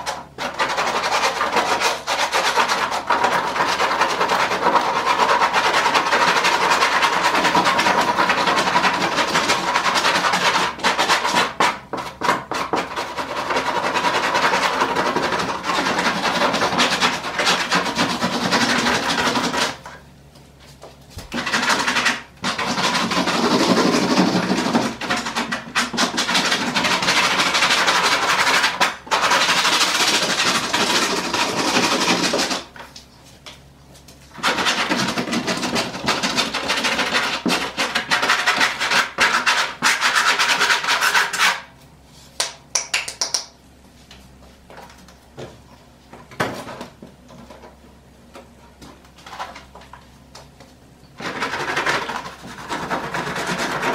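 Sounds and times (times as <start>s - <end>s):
hand brush scrubbing board: 0.0s - 19.9s, 20.6s - 33.4s, 34.3s - 42.4s, 51.2s - 53.9s.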